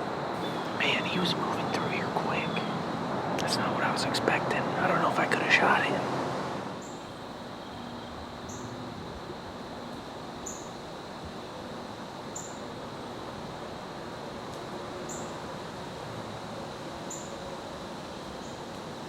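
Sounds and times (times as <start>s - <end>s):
wind rustling: 0.0s - 19.0s.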